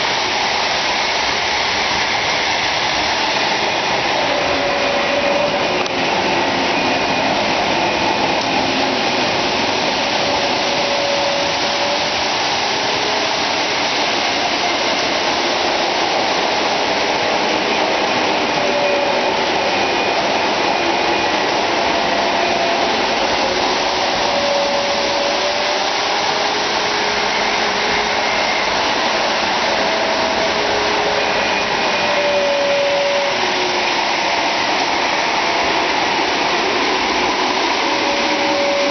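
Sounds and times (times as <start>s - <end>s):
model trains whirring and rumbling: 0.0s - 38.9s.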